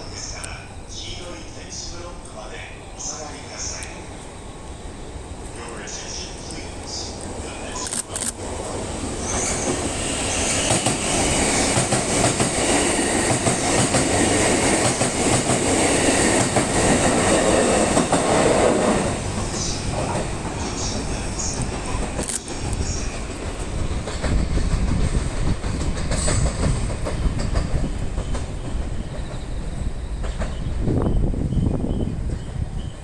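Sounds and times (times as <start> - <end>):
train wheels running on rails: 0.0 - 33.0.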